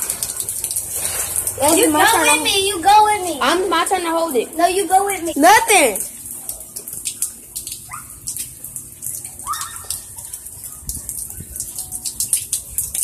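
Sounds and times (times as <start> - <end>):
raindrops pattering: 0.0 - 13.0.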